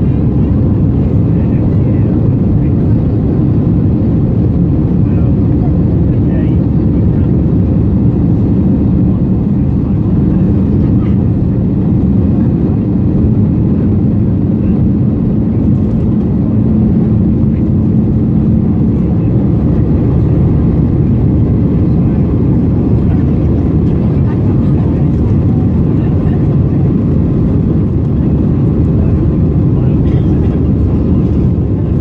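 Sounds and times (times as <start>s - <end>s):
airplane engines rumbling in cabin: 0.0s - 32.0s.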